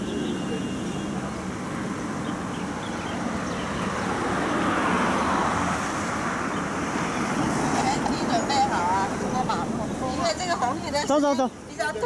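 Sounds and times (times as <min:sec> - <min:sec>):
vehicles passing on street: 0:00.0 - 0:12.0.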